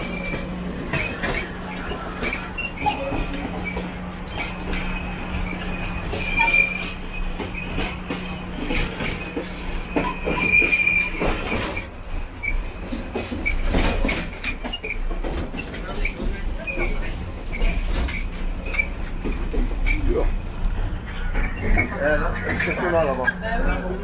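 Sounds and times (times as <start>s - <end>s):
train wheels squealing: 0.0s - 24.0s.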